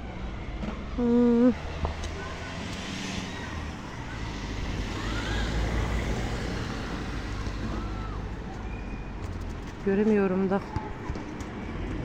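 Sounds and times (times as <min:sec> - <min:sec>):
vehicle passing: 0:00.0 - 0:10.6.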